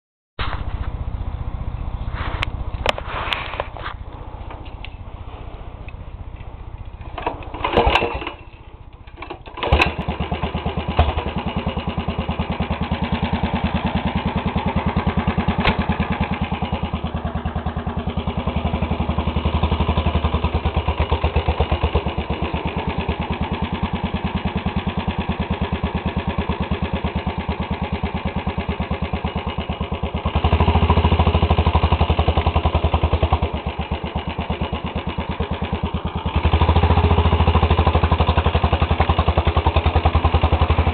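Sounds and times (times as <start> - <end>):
lawn tractor engine running: 0.4 - 40.9.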